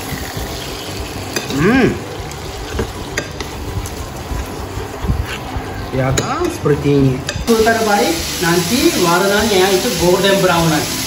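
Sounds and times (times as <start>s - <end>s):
fish sizzling in oil: 0.0s - 6.6s, 7.3s - 11.0s.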